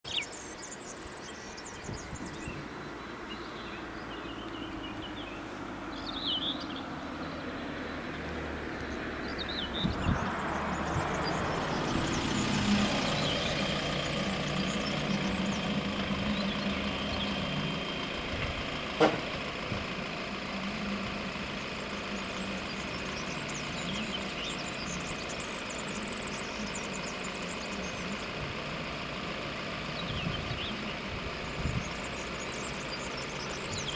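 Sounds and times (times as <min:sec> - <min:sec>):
engine humming: 0:00.0 - 0:33.9.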